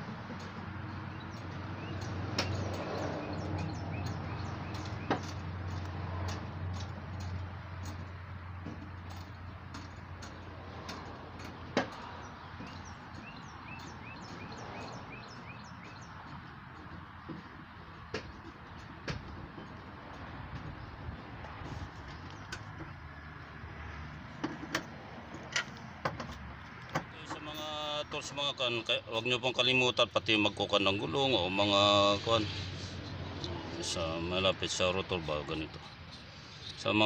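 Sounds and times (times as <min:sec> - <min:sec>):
low traffic hum: 0:00.0 - 0:37.0.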